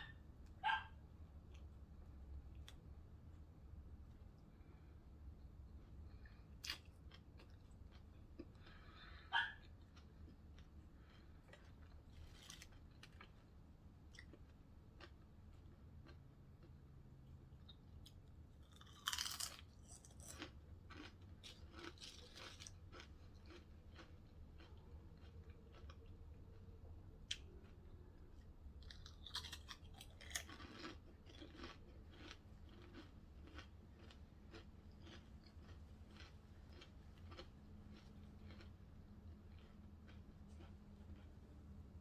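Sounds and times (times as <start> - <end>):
steady low hum: 0.0 - 42.0
chewing and biting sandwich: 5.9 - 41.8.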